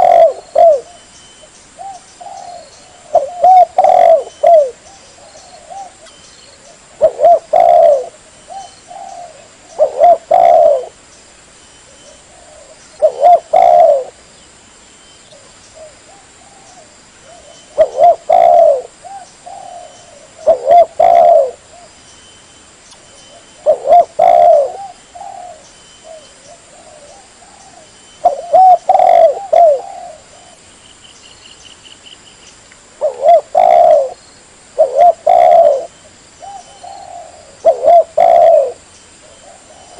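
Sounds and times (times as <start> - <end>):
dove cooing: 0.0 - 11.0, 12.0 - 14.2, 15.4 - 21.9, 23.3 - 30.6, 33.0 - 34.2, 34.8 - 39.9.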